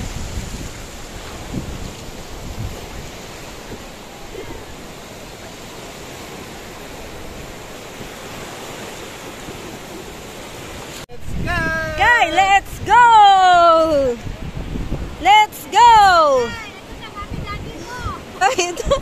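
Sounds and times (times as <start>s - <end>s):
waves breaking on shore: 0.0s - 19.0s.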